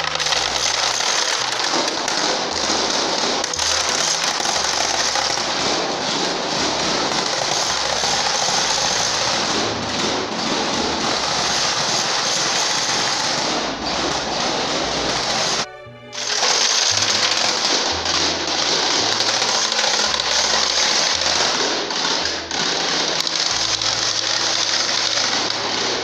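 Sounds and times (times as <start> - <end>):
wooden rattles clattering: 0.0 - 26.0.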